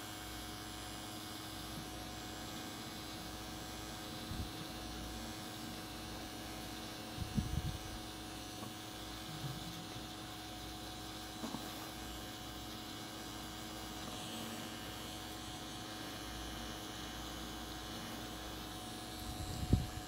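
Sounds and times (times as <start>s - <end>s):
tattoo machine humming: 0.0s - 20.0s.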